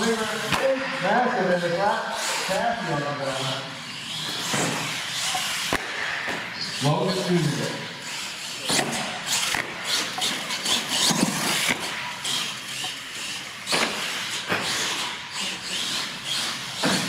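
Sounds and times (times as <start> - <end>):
toy truck motor whirring: 0.0 - 17.0.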